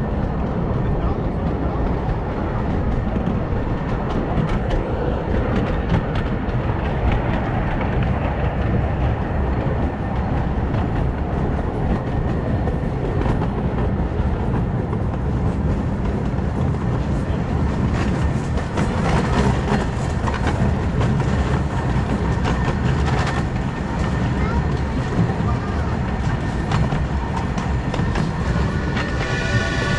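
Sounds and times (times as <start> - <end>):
rumble of moving train cars: 0.0 - 29.9.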